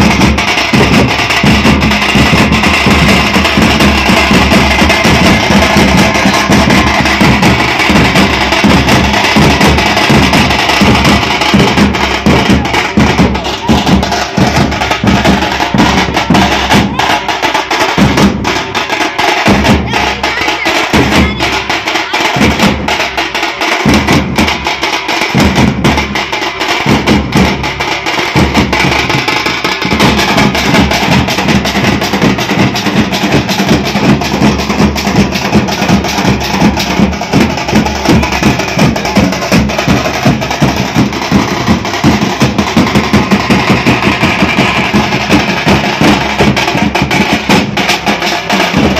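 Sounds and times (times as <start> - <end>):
drum troupe playing fast rhythm: 0.0 - 48.9.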